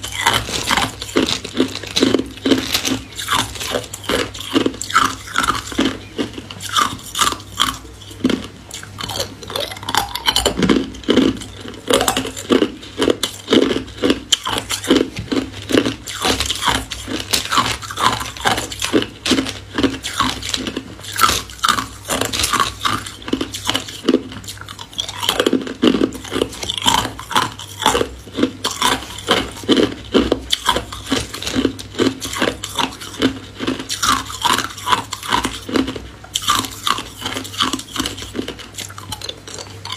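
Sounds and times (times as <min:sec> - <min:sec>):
ice cubes crunched by teeth: 0:00.0 - 0:39.9.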